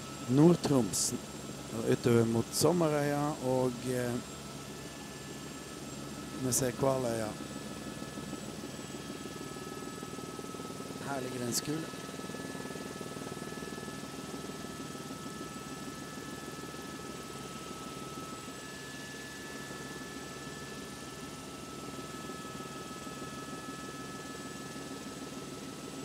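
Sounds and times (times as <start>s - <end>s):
faint high whine: 0.0s - 26.0s
helicopter engine and rotor drone: 0.0s - 26.0s.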